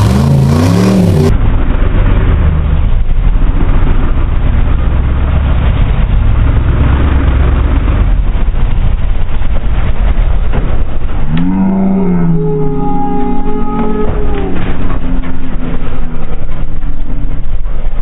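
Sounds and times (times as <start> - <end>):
engine rumbling at low revs: 0.0 - 18.0.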